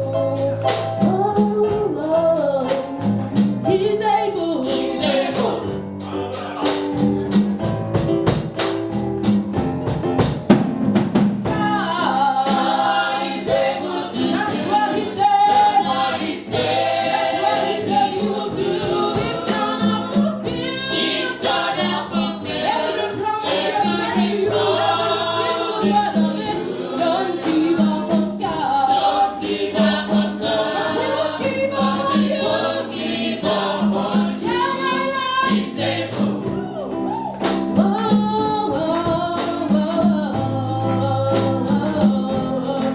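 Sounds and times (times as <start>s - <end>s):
gospel singers with band: 0.0s - 9.5s, 10.9s - 42.9s
drums and tambourine beat: 2.7s - 3.7s, 4.7s - 42.9s.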